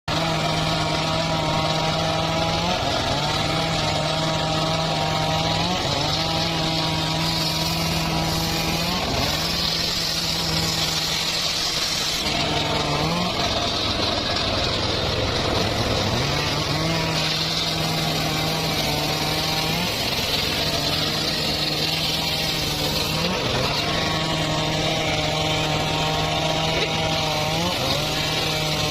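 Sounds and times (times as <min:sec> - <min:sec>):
circular saw cutting wood: 0:00.1 - 0:28.9
hissing cutting noise: 0:00.1 - 0:28.9.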